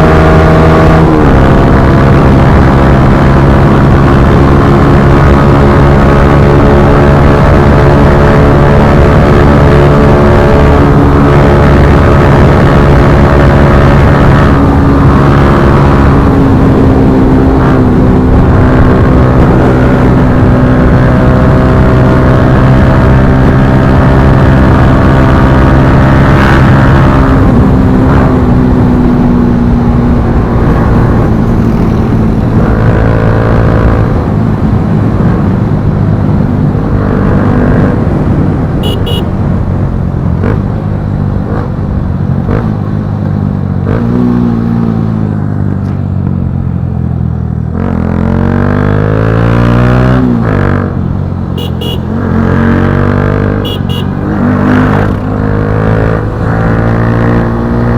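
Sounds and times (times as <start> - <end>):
motorcycle engine revving: 0.0 - 45.3, 47.3 - 57.9.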